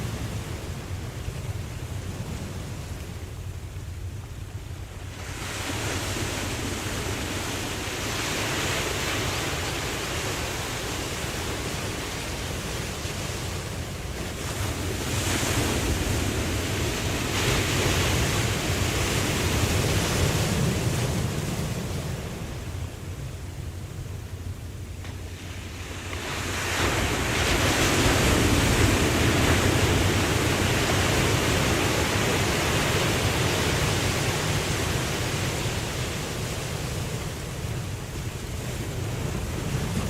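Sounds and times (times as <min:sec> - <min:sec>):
ocean surf washing: 0:00.0 - 0:40.0.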